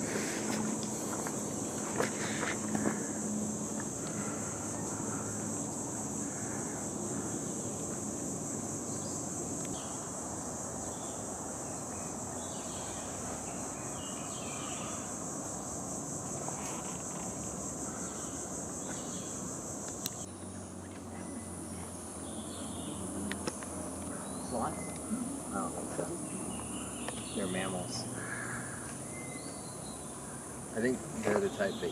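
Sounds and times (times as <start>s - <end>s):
insects buzzing: 0.0s - 31.9s.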